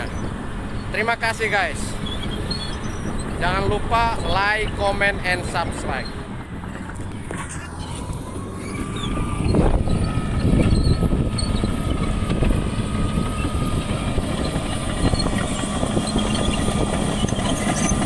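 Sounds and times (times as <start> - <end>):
bulldozer engine and tracks: 0.0 - 18.0.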